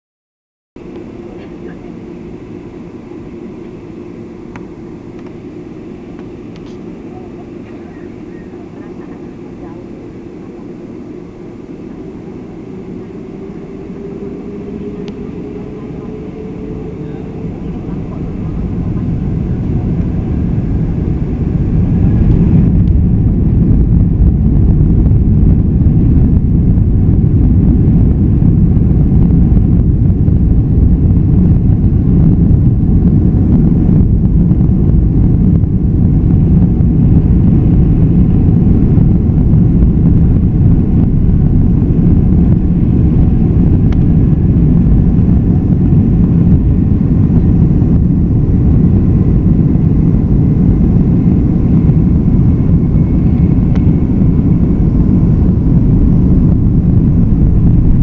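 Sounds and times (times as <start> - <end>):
jet engines at takeoff power: 0.8 - 58.0.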